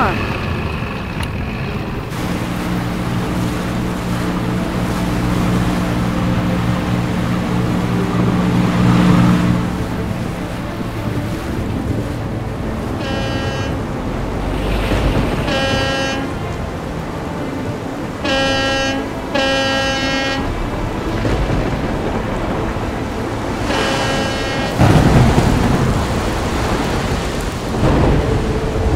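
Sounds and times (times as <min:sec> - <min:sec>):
stormy sea rushing: 0:00.0 - 0:28.9
boat horn blasts: 0:02.1 - 0:26.8.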